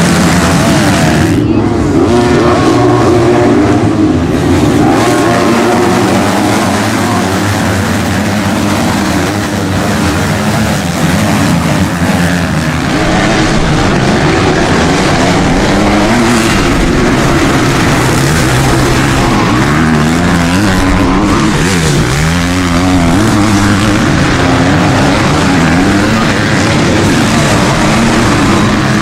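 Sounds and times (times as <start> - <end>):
motocross engines revving: 0.0 - 29.0.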